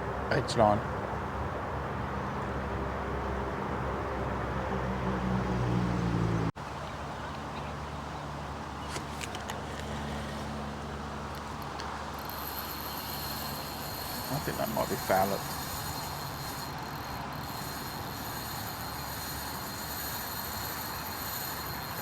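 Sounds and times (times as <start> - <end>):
engine hum: 1.1 - 22.0.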